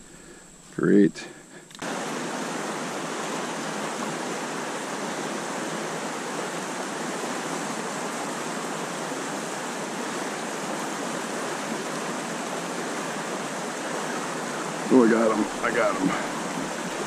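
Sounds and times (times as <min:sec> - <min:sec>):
stream water rushing: 0:01.8 - 0:17.0.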